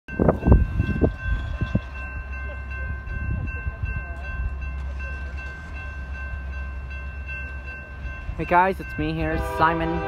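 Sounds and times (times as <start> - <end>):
railroad crossing bell ringing: 0.1 - 10.0.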